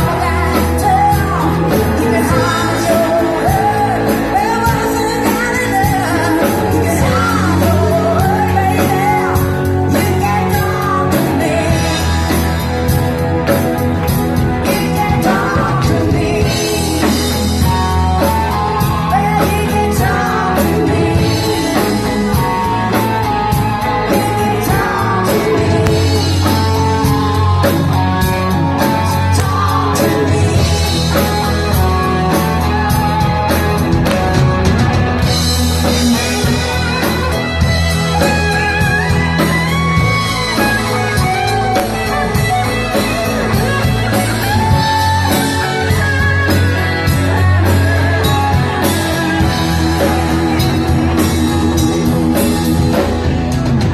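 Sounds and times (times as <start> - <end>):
lead vocalist singing: 0.0 - 53.9
live rock band playing: 0.0 - 53.9.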